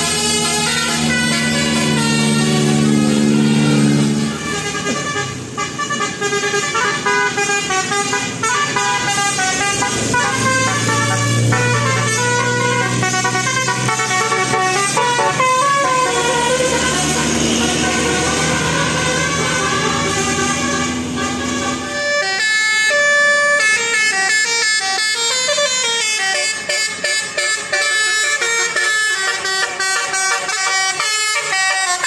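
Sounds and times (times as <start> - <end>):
multi-tone bus horn tune: 0.0 - 32.0.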